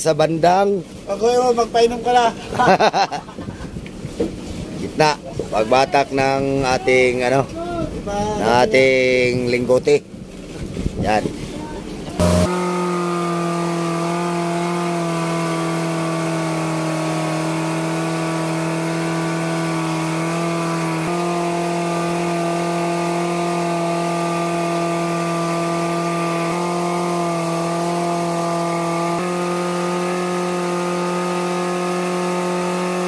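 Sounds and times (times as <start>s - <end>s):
boat engine running: 3.3s - 8.4s, 9.2s - 33.0s.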